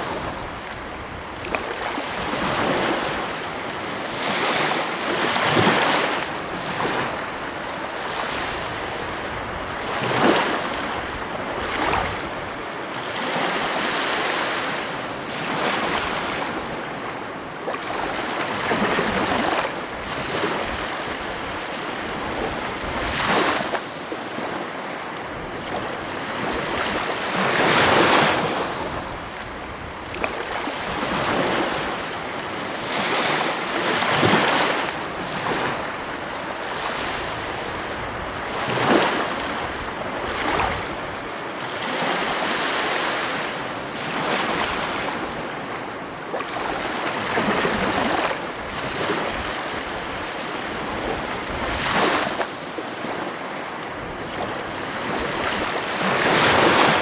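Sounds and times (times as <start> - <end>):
heavy ocean waves crashing: 0.0 - 57.0.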